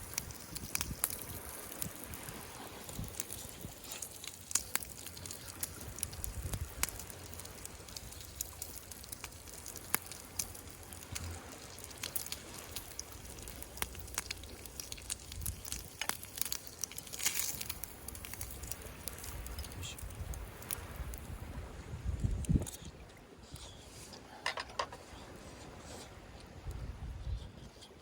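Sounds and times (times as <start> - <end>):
campfire crackling and popping: 0.0 - 22.8.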